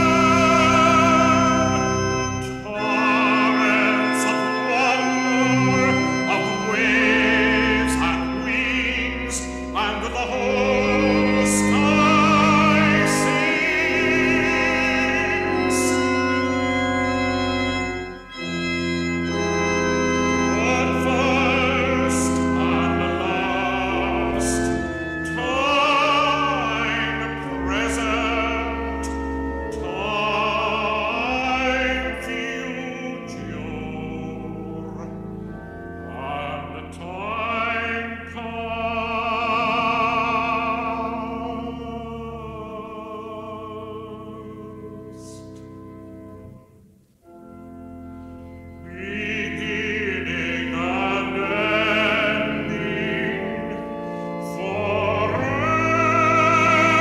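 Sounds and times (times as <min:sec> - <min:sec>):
operatic tenor singing: 0:00.0 - 0:46.0, 0:48.8 - 0:57.0
instrumental accompaniment: 0:00.0 - 0:57.0.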